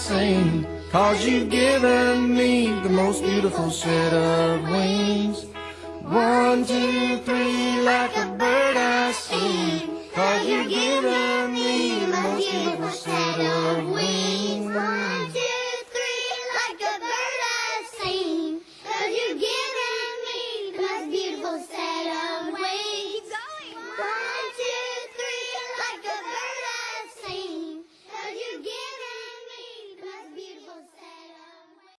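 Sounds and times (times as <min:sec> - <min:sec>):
child singing: 0:00.0 - 0:32.0.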